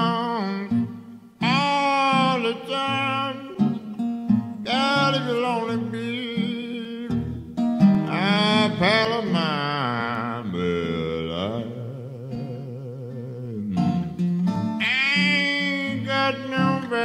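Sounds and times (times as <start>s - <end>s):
acoustic blues guitar: 0.0s - 17.0s.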